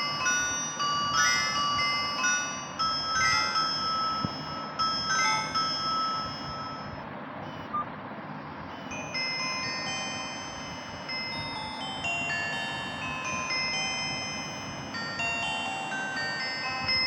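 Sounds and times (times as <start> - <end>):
phone ringtone bell-like melody: 0.0 - 7.0, 8.7 - 17.0.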